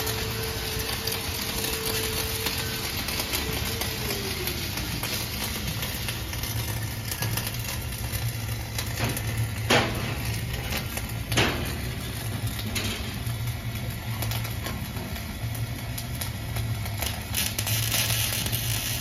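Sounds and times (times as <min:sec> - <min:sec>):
sharp welding pops: 0:00.0 - 0:19.0
welding arc crackling: 0:00.0 - 0:19.0.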